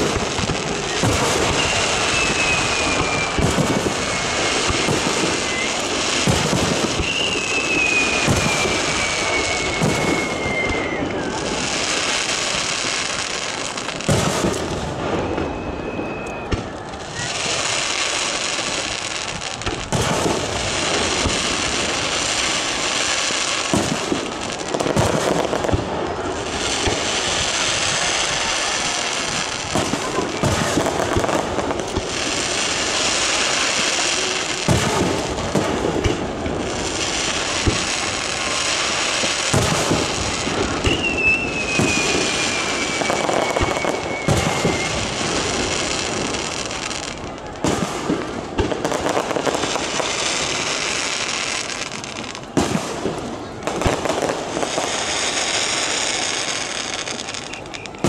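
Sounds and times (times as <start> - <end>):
crackling hiss: 0.0 - 58.0
falling firework whistle: 0.0 - 58.0.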